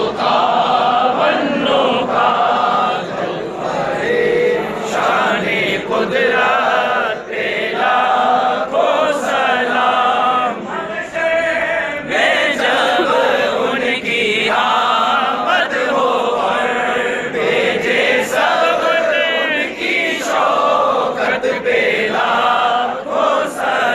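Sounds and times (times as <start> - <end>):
crowd of men chanting: 0.0 - 23.9.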